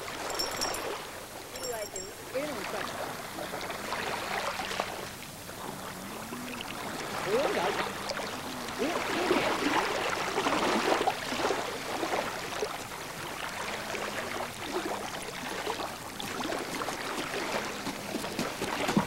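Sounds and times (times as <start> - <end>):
small waves: 0.0 - 19.0
water splashing and lapping: 0.0 - 19.0.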